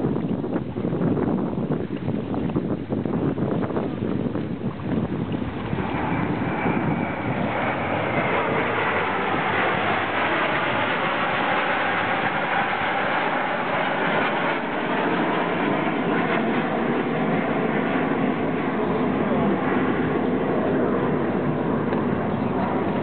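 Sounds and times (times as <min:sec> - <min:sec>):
jet engines flying overhead: 0:00.0 - 0:23.0.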